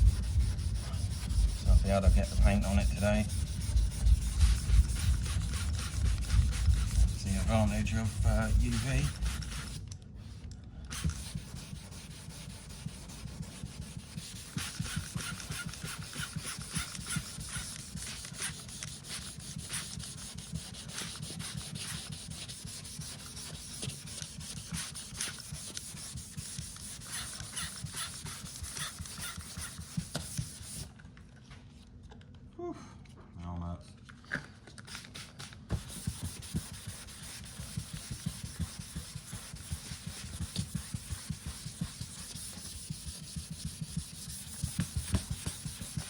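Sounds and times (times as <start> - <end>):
sandpaper scrubbing strokes: 0.0 - 9.8, 10.9 - 30.9, 35.2 - 46.0.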